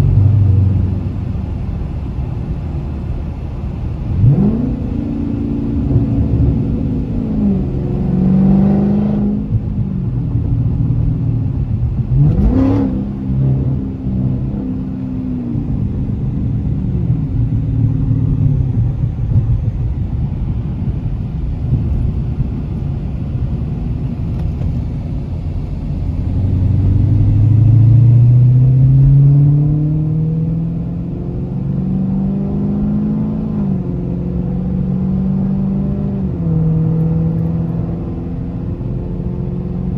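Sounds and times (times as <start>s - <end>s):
car engine revving with gear changes: 0.0s - 39.9s.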